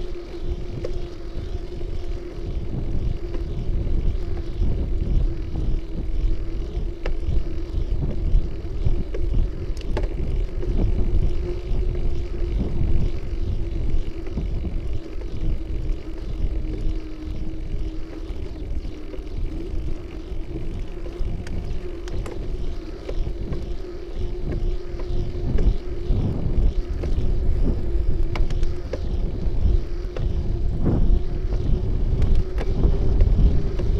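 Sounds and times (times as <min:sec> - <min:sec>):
road rumble: 0:00.0 - 0:33.9
steady hum: 0:00.0 - 0:33.9
wind buffeting: 0:00.0 - 0:33.9
sharp clicks from bumps: 0:00.1 - 0:33.9.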